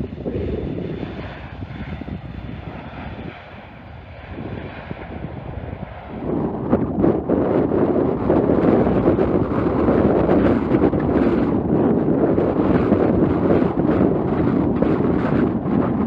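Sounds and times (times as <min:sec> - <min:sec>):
airliner engine rumble: 0:00.0 - 0:16.0
wind buffeting microphone: 0:00.0 - 0:16.0.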